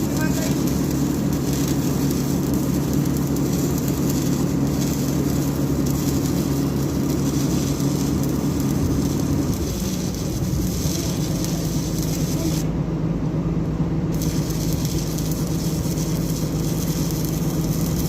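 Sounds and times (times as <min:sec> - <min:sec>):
heavy machinery droning: 0:00.0 - 0:18.0.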